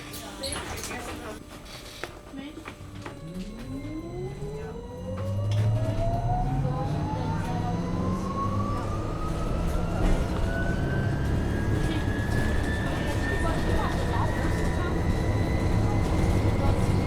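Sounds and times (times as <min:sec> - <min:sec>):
bus drivetrain rumble: 0:00.0 - 0:17.0.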